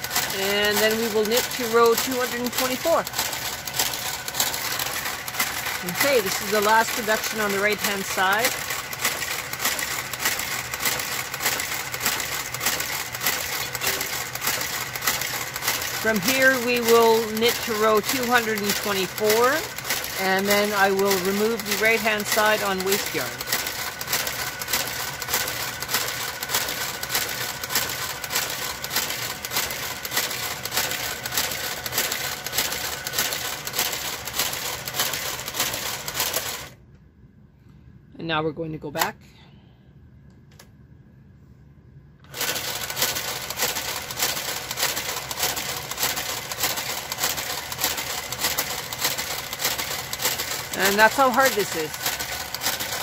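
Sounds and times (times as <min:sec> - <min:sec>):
knitting machine carriage clattering: 0:00.0 - 0:36.8, 0:42.3 - 0:53.0.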